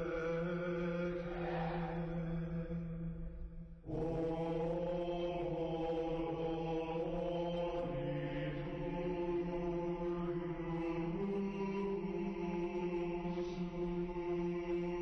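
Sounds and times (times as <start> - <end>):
men chanting in low voices: 0.0 - 3.3, 3.9 - 15.0.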